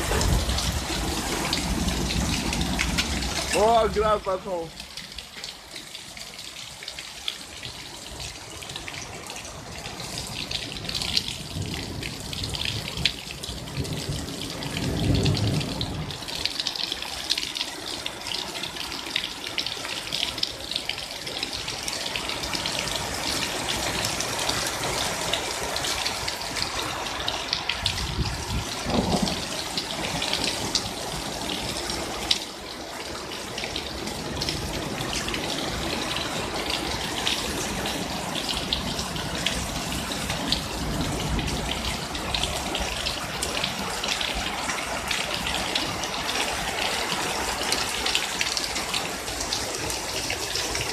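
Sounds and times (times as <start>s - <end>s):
hail and heavy rain pelting: 0.0s - 50.9s.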